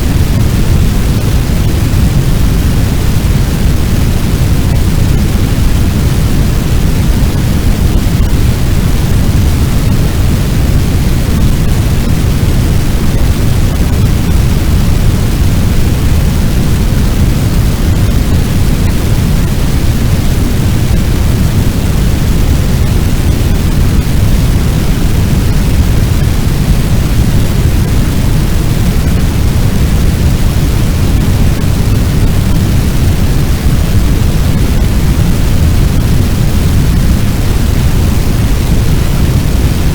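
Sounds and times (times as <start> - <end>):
fire rushing roar: 0.0 - 39.9.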